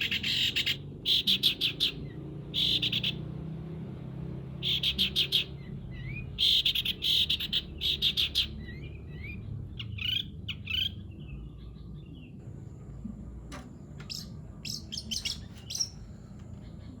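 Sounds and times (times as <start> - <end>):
bird harsh chirping: 0.0 - 3.2, 4.6 - 12.8, 13.9 - 17.0.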